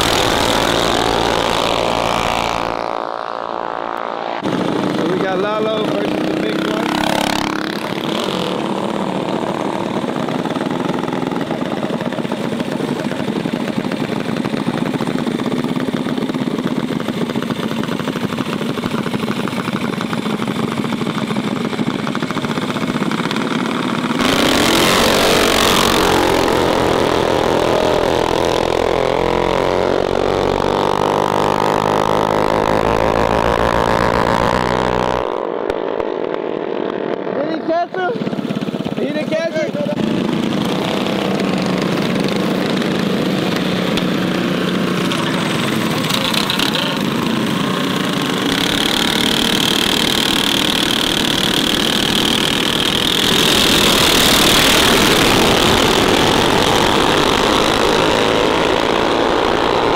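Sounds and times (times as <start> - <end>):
mini bike engines running: 0.0 - 59.9.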